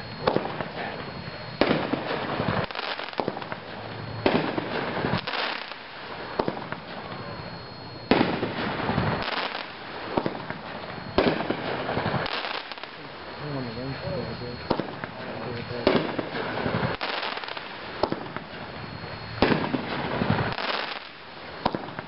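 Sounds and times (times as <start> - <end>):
firework crackling bursts: 0.0 - 7.5, 8.1 - 22.0
firework shot reports: 0.0 - 22.0.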